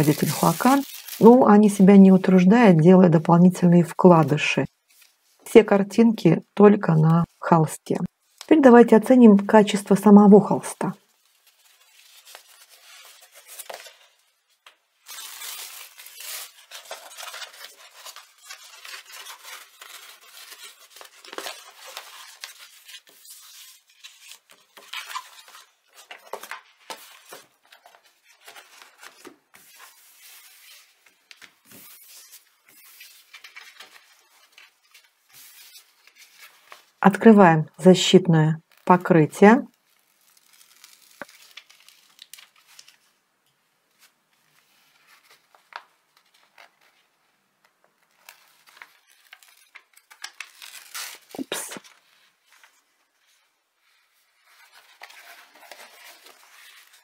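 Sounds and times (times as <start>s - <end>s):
canvas and plastic film crackling: 0.0s - 2.9s, 10.4s - 37.3s, 38.6s - 43.2s, 43.9s - 57.0s.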